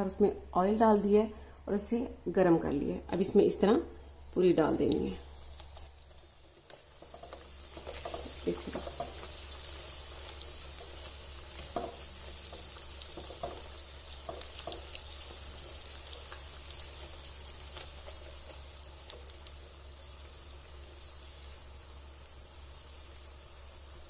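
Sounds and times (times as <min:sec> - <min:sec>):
dough sizzling in hot oil: 0:04.2 - 0:24.0.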